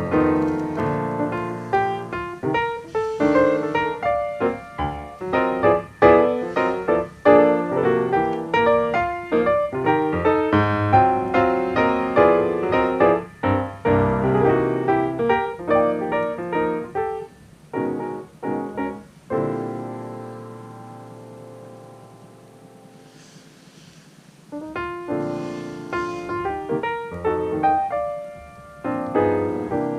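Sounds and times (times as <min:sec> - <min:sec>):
piano music: 0:00.0 - 0:23.3, 0:24.5 - 0:29.9.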